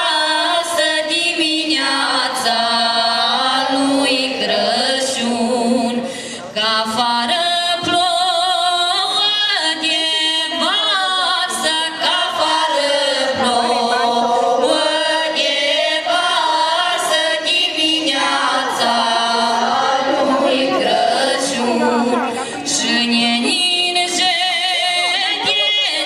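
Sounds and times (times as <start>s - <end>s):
group singing carol with vibrato: 0.0s - 26.0s.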